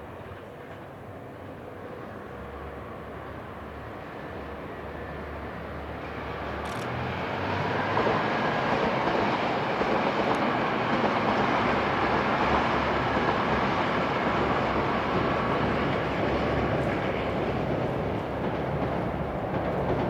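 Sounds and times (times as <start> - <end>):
diesel train engines: 0.0 - 20.0
train wheels on rails: 0.0 - 20.0.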